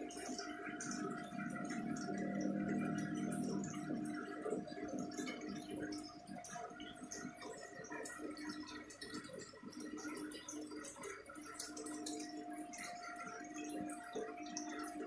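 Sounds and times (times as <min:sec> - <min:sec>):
water bubbling and trickling: 0:00.0 - 0:15.0
water pump humming: 0:00.0 - 0:15.0.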